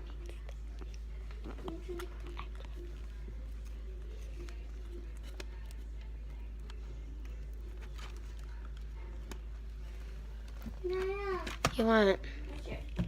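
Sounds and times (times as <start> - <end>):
faint clicks and taps: 0.0 - 11.8
low room hum: 0.0 - 13.0.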